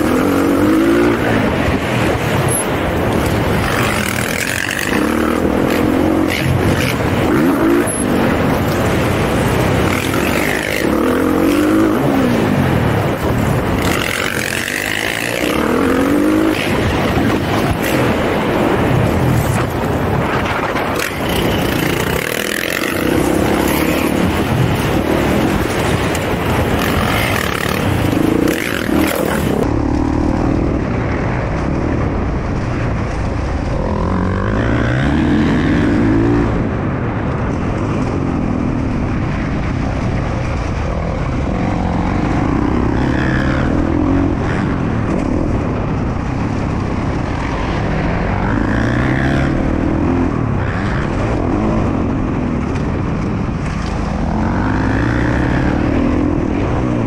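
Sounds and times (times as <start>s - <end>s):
dirt bike engine revving: 0.0s - 30.9s, 33.7s - 36.8s, 41.5s - 45.1s, 47.3s - 52.8s, 54.0s - 57.0s.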